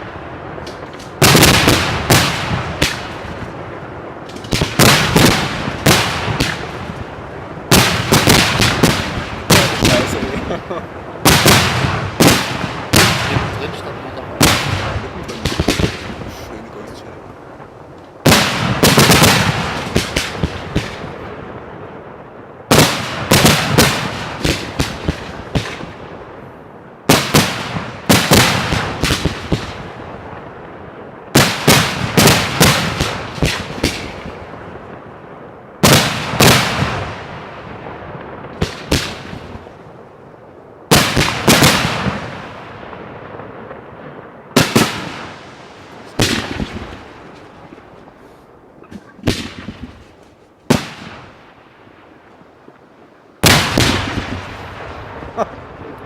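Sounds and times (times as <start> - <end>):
fireworks bangs and cracks: 0.0 - 40.0, 40.8 - 56.0
fireworks rumble: 0.0 - 56.0.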